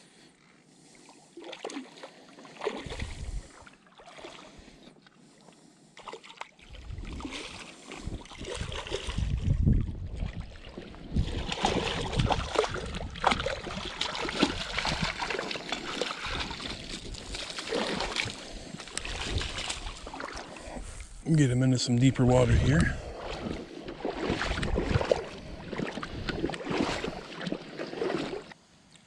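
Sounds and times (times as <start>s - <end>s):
river water splashing: 1.0s - 4.8s, 5.4s - 28.6s.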